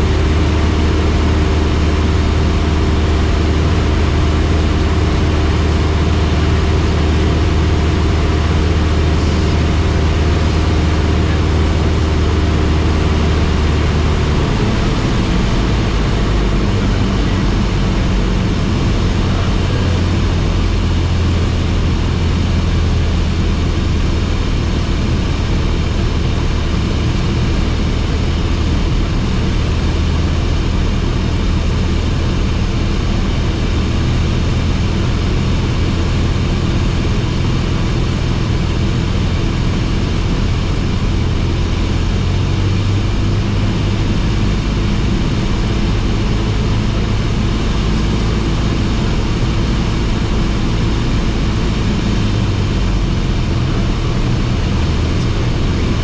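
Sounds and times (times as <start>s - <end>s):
airplane engine and propeller: 0.0s - 56.0s.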